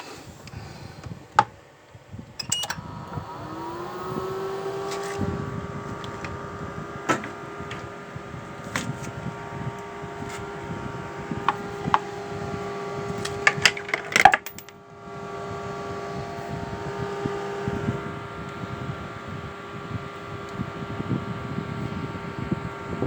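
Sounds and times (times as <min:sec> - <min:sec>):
steady machine hum: 0:02.4 - 0:23.0.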